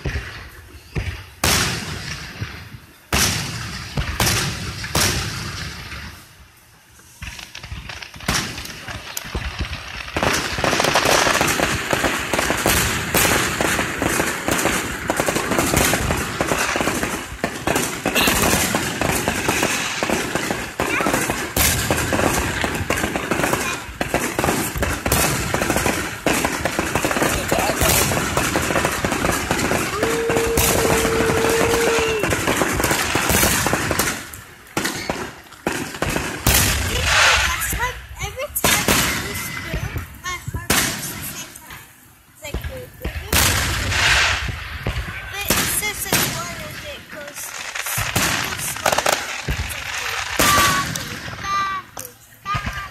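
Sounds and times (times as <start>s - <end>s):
fireworks banging and crackling: 0.0s - 52.9s.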